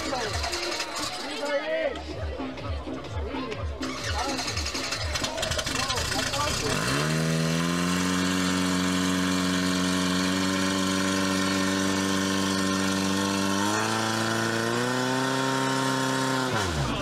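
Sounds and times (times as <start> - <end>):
pump engine running: 0.0 - 1.3, 3.8 - 17.0.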